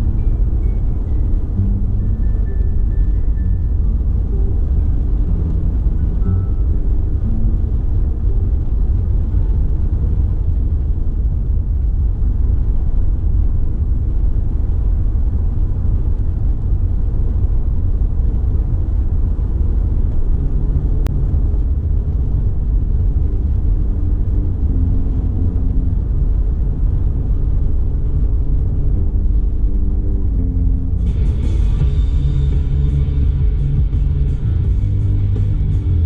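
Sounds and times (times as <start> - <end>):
car road and engine rumble: 0.0 - 36.0
faint low tones: 0.0 - 36.0.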